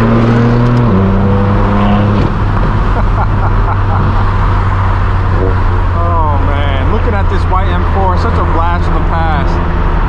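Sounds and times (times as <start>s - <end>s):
car exhaust at cruising speed: 0.0s - 10.0s.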